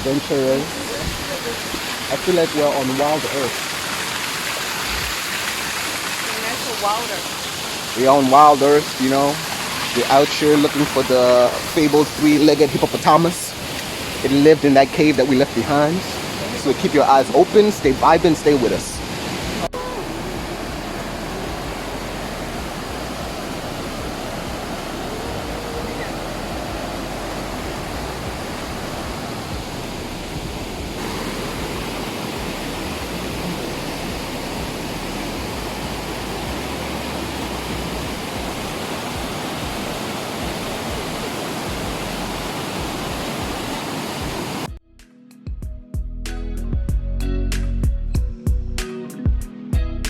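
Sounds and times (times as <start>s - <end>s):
river rushing: 0.0s - 44.7s.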